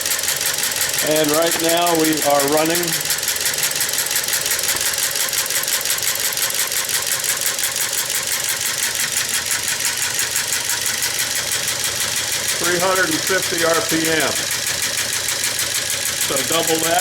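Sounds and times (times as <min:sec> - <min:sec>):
electric motor running: 0:00.0 - 0:17.0
rapid mechanical engine clatter: 0:00.0 - 0:17.0.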